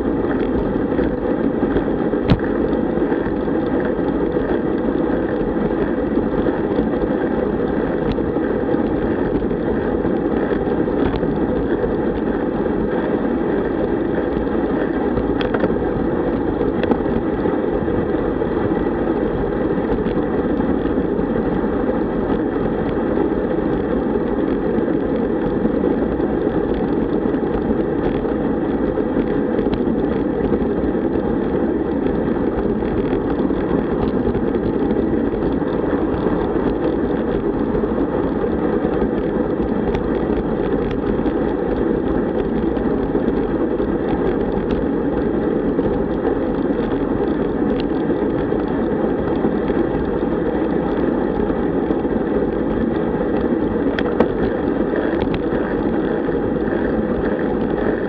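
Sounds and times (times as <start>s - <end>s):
bicycle tyre and road noise: 0.0s - 58.0s
wind rumble on microphone: 0.0s - 58.0s.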